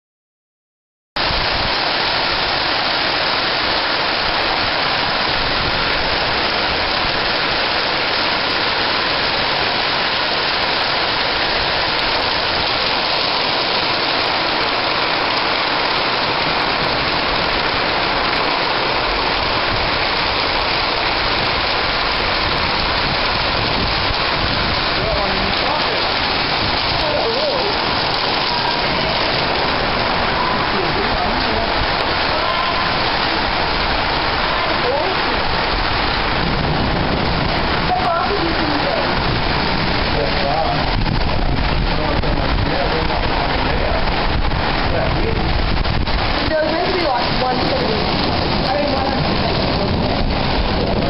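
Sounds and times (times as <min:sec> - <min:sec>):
heavy rain on a metal roof: 0:01.2 - 0:51.0.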